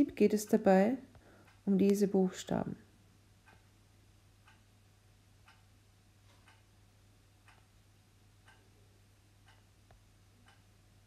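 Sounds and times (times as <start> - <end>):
faint clock ticking: 0.0 - 11.0
low steady hum: 0.0 - 11.0.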